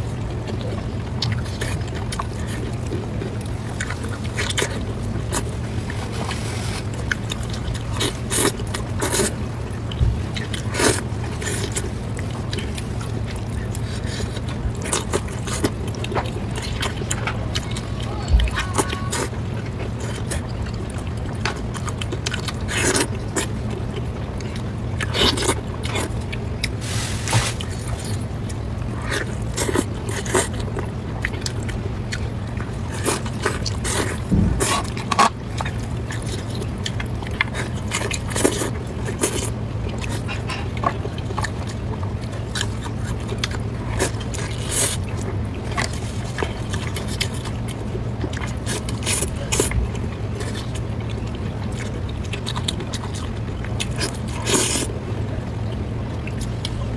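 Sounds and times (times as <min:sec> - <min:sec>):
chewing and biting: 0:00.0 - 0:56.9
steady low hum: 0:00.0 - 0:56.9.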